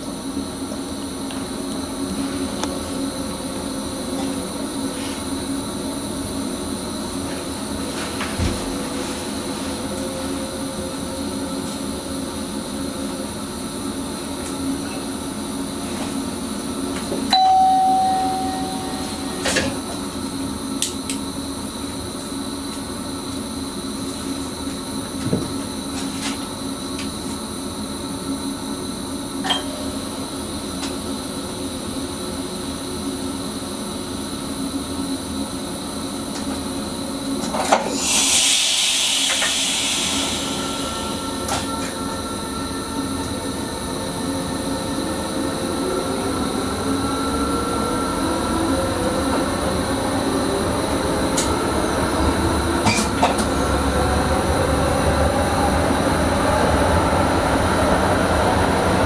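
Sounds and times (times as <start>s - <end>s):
train rolling noise: 0.0s - 33.5s, 34.4s - 59.0s.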